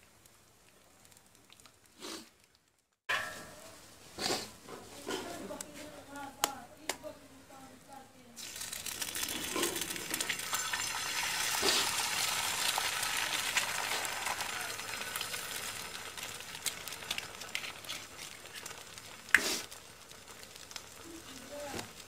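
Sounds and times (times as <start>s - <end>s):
egg sizzling on hot pan: 0.0s - 4.6s, 8.4s - 22.0s.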